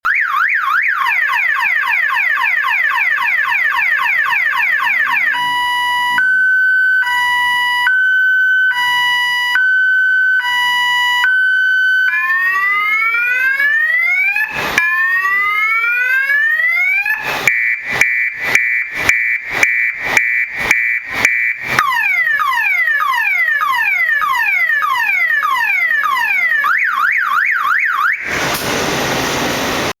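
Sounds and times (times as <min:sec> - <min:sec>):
electronic siren cycling tones: 0:00.0 - 0:28.4.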